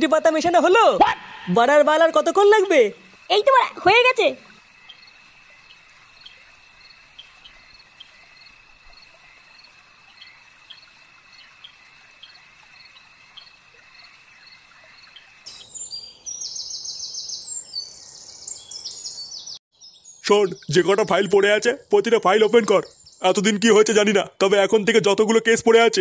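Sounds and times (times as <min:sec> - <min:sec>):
birds twittering: 0:00.0 - 0:24.8
crickets trilling: 0:00.0 - 0:26.0.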